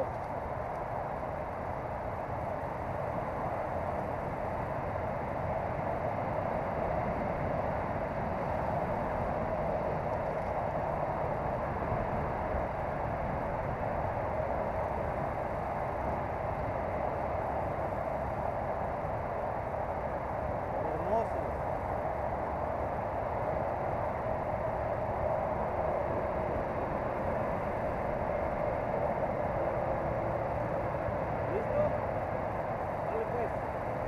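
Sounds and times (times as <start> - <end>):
steady rushing noise: 0.0 - 34.0.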